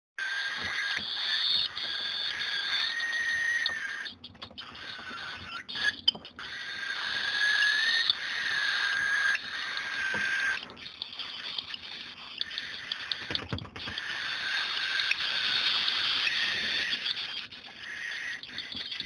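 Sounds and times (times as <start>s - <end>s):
baby birds buzzing begging call: 0.2s - 19.0s.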